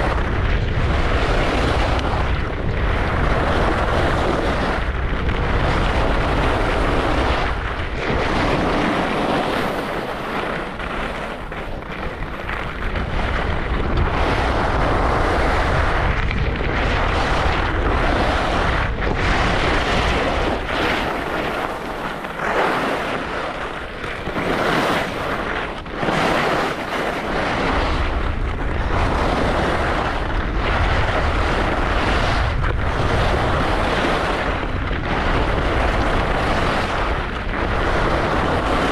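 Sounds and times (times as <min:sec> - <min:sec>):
skis scraping on snow: 0:00.0 - 0:38.9
wind buffeting microphone: 0:00.0 - 0:38.9.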